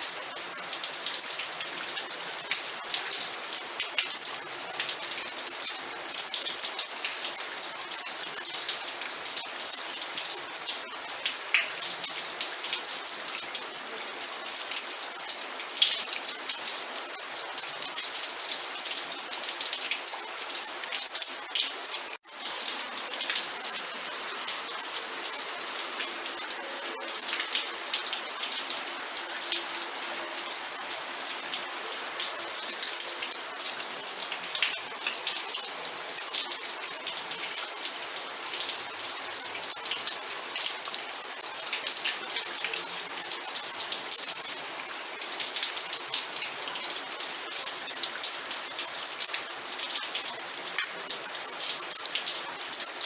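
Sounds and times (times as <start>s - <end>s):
raindrops hitting a surface: 0.0s - 53.0s
steady rain: 0.0s - 53.0s.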